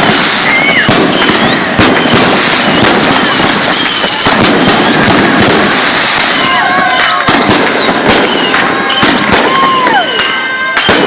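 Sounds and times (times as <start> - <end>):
firework bang: 0.0 - 11.0
firework whistles: 0.0 - 11.0
fireworks crackling and popping: 0.0 - 11.0.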